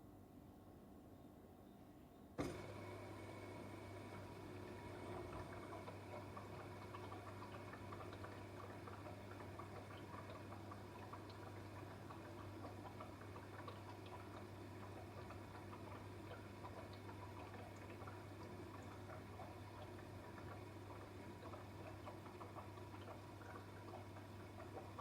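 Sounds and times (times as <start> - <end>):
dishwasher humming: 2.4 - 25.0
water trickling and dripping: 2.5 - 25.0.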